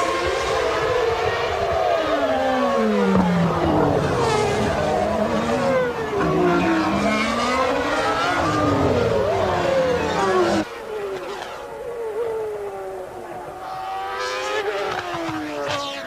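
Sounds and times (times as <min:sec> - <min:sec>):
race car engines at high revs: 0:00.0 - 0:16.0.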